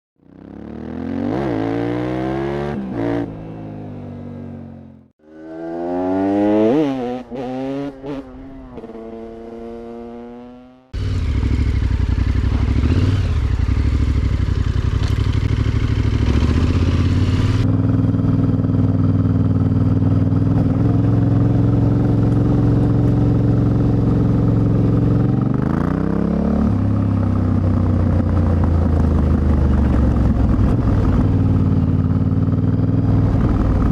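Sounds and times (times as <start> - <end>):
motorcycle engine revving: 0.2 - 33.9.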